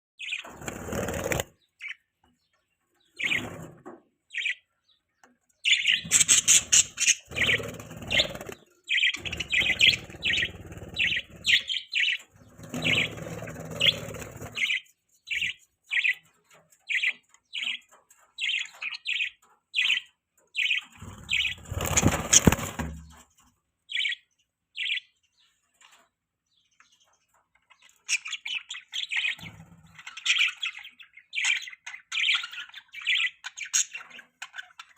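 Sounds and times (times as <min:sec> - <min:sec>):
budgies chirping: 0:00.2 - 0:34.9.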